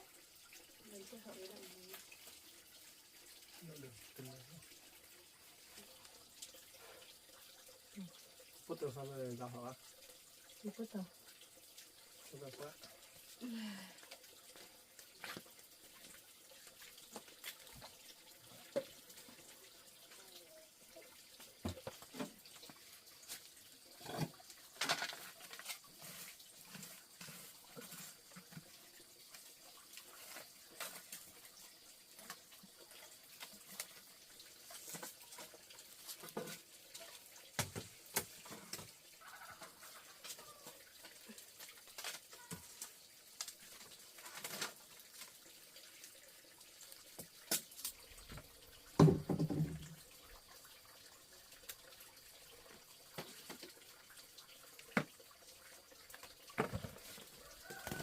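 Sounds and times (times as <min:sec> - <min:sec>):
faint water splashing: 0:00.0 - 0:58.0.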